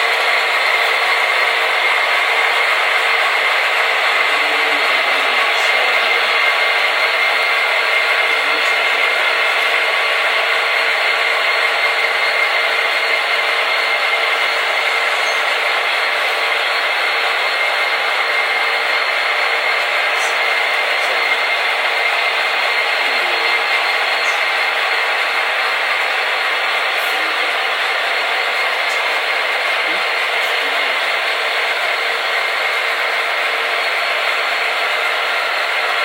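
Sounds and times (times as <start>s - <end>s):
model locomotive engine drone: 0.0s - 36.0s.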